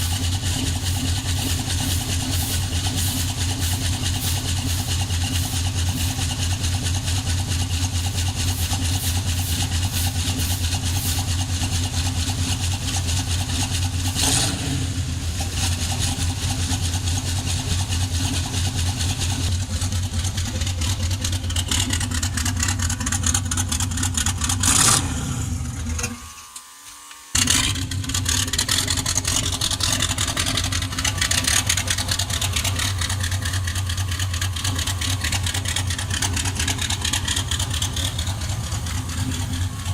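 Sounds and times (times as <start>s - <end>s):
engine idling: 0.0s - 26.3s, 27.4s - 39.9s.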